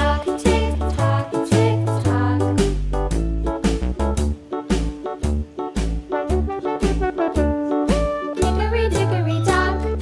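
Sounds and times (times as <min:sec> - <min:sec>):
upbeat children's music: 0:00.0 - 0:10.0.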